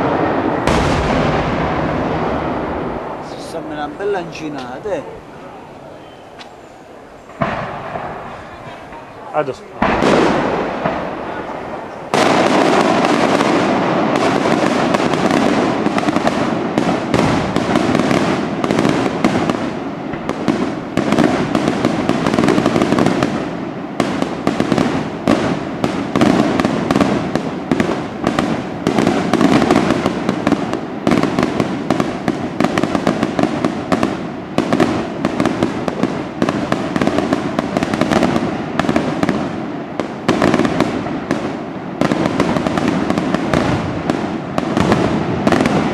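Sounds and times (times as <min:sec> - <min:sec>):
fireworks bangs and crackling: 0:00.0 - 0:45.9.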